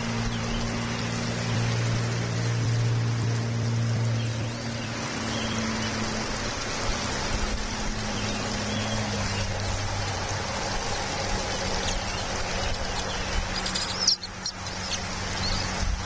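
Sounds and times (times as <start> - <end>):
low steady hum: 0.0 - 16.0
rain falling: 0.0 - 16.0.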